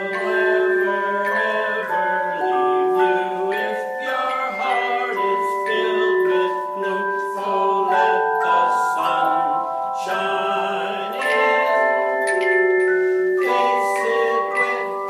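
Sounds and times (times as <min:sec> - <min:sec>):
tone chimes playing a melody: 0:00.0 - 0:15.0.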